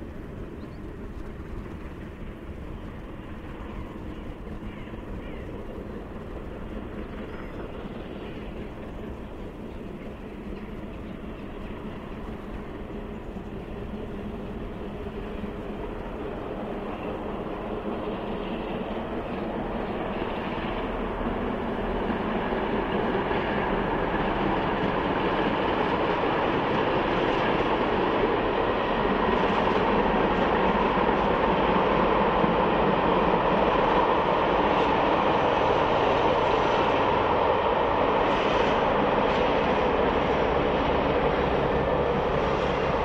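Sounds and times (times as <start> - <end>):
diesel locomotive: 0.0 - 43.0
steam train passing: 0.0 - 43.0.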